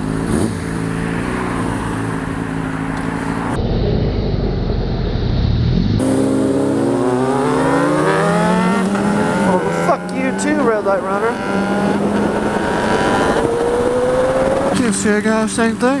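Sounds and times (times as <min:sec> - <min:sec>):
motorcycle engine accelerating: 0:00.0 - 0:15.6.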